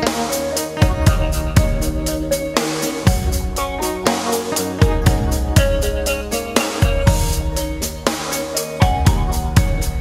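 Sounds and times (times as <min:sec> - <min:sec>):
drum kit beat: 0:00.0 - 0:10.0
sustained instrumental chords: 0:00.0 - 0:10.0.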